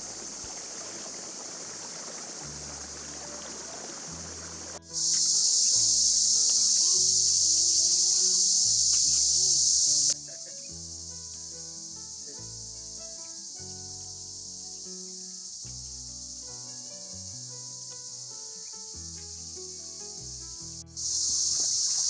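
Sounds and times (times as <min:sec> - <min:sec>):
soft background music: 0:00.0 - 0:09.5, 0:10.1 - 0:22.0
insects chirping: 0:00.0 - 0:22.0.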